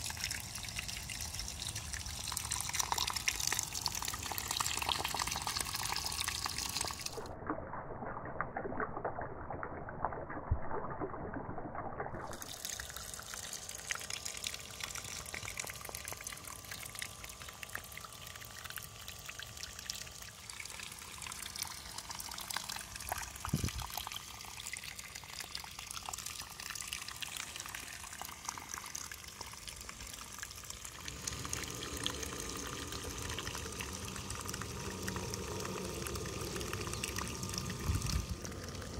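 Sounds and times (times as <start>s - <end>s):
water gushing onto wet mud: 0.0s - 11.5s, 12.1s - 38.9s.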